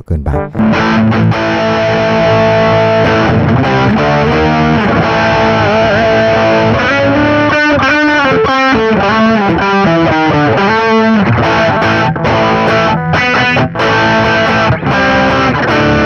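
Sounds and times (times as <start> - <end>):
overdriven electric guitar: 0.4 - 16.0.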